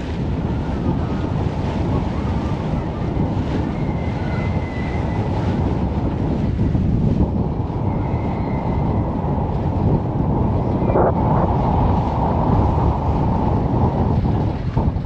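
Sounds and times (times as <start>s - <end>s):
low rumble of boat: 0.0s - 15.0s
wash of choppy water: 0.0s - 15.0s
wind buffeting microphone: 0.0s - 15.0s.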